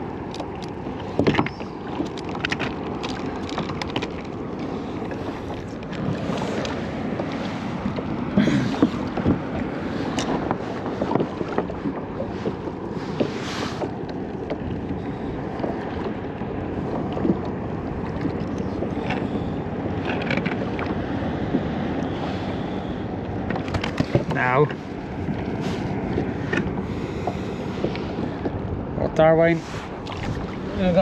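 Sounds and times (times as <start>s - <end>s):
water lapping against hull: 0.0s - 31.0s
wind on microphone: 1.0s - 31.0s.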